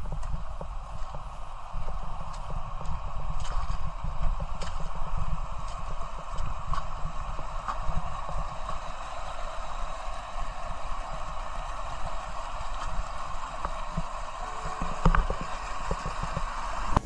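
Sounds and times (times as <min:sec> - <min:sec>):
water gushing over rocks: 0:00.0 - 0:17.0.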